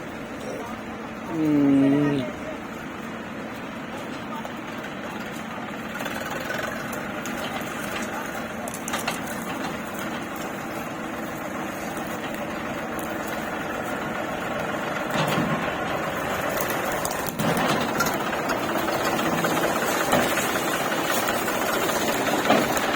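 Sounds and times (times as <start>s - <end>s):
motor running: 0.0s - 22.9s.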